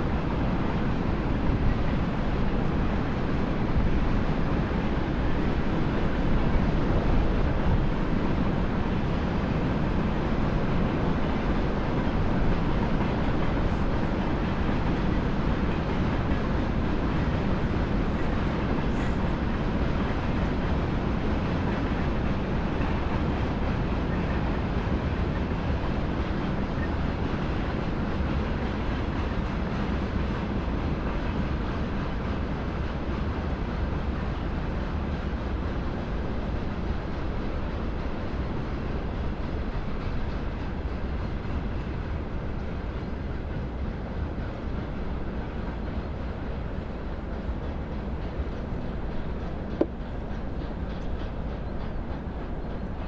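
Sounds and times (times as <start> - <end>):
train running past: 0.0 - 53.0.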